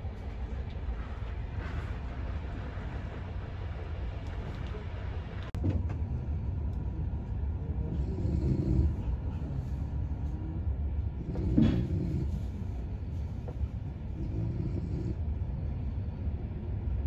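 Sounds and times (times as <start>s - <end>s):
train rumble inside carriage: 0.0s - 17.0s.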